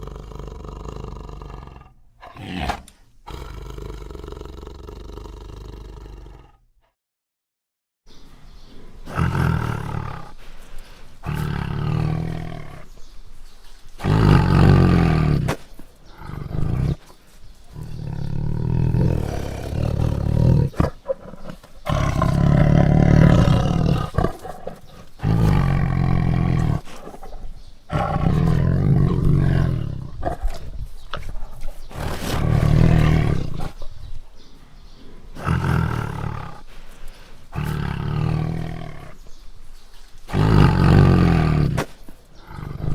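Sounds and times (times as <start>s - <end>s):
tiger roaring: 0.0s - 6.6s, 8.9s - 10.5s, 11.2s - 13.0s, 14.0s - 34.2s, 35.0s - 39.4s, 40.3s - 42.9s.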